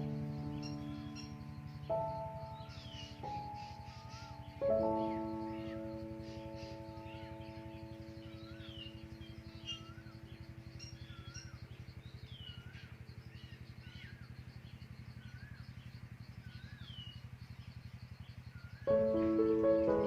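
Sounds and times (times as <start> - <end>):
faint whistled birdsong: 0.0 - 20.0
steady low hum: 0.0 - 20.0.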